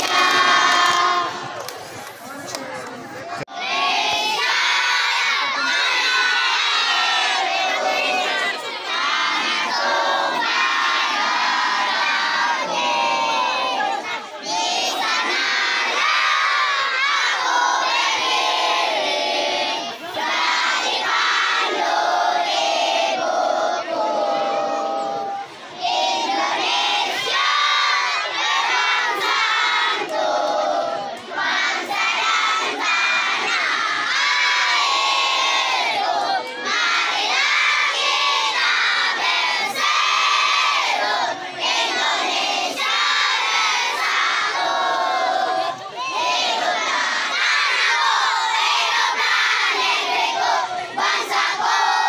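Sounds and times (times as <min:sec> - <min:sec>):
children singing in unison: 0:00.0 - 0:01.6, 0:03.5 - 0:52.0.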